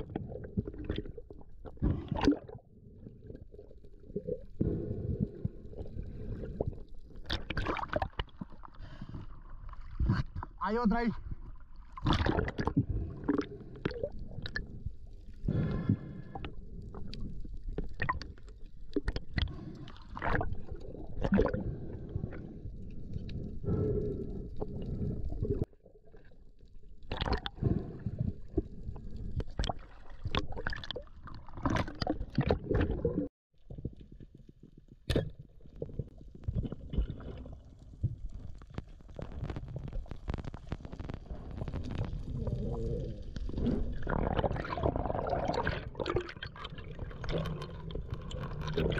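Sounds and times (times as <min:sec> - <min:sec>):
water gurgling and sloshing: 0:00.0 - 0:48.9.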